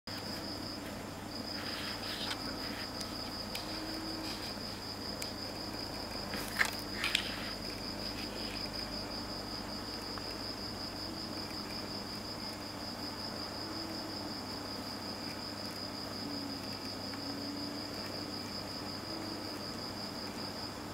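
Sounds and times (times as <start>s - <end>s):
insect trilling: 0.2s - 20.7s.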